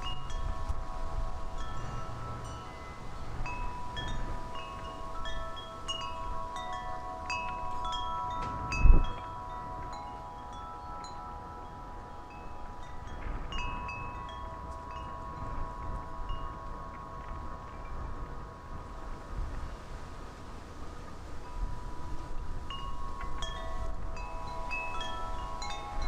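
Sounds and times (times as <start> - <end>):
metal wind chimes ringing: 0.0 - 26.0
wind rumbling on microphone: 0.0 - 26.0.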